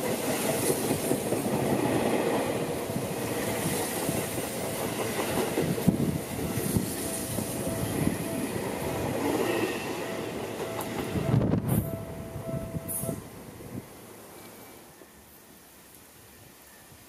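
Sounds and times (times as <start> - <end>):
train wheels rushing on rails: 0.0 - 15.1.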